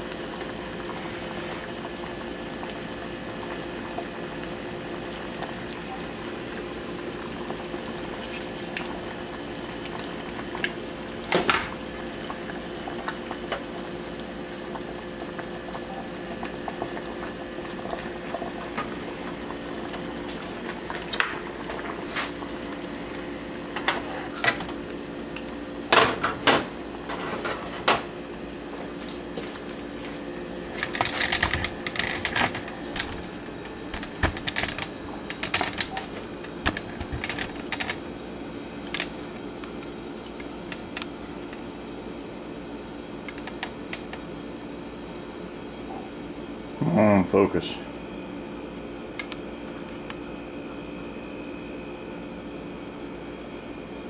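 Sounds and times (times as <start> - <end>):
water boiling in pot: 0.0 - 54.0.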